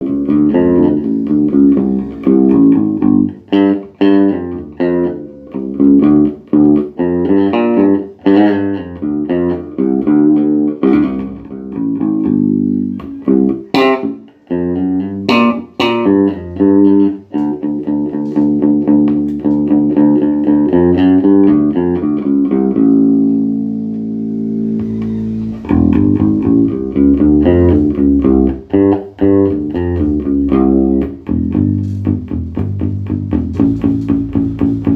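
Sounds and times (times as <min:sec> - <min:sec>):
bass guitar plucked notes: 0:00.0 - 0:34.9.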